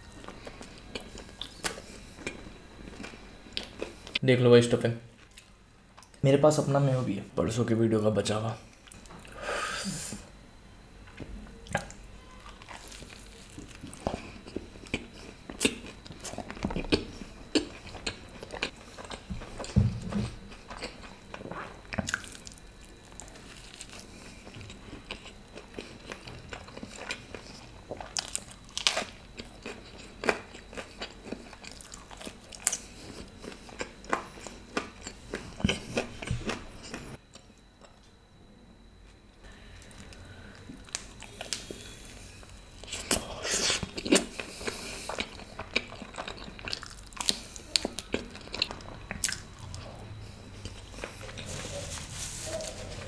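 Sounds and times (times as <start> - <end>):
person chewing crunchy bread: 0.0 - 4.2, 11.7 - 38.0, 39.8 - 53.0.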